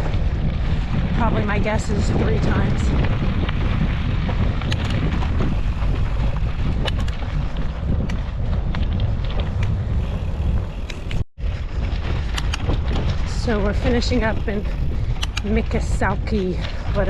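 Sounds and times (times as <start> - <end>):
bike clicks and rattles: 0.0 - 17.0
bike rolling on dirt trail: 0.0 - 17.0
wind buffeting microphone: 0.0 - 17.0.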